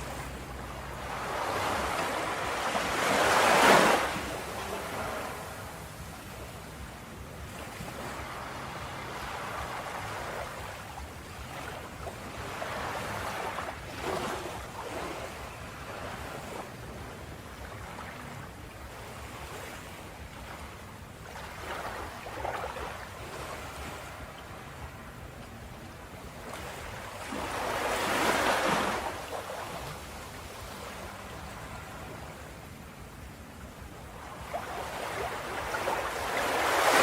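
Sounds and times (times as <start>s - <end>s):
ocean waves breaking on shore: 0.0s - 37.0s.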